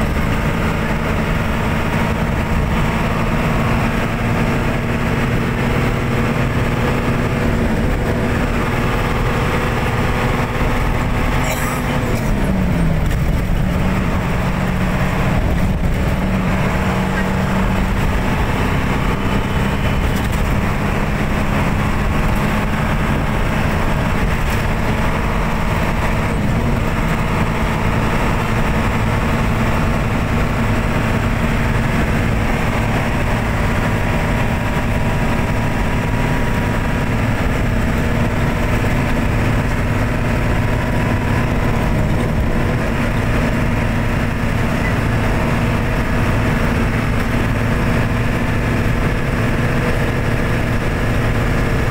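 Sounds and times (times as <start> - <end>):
vehicle engine and tyre noise: 0.0 - 51.9.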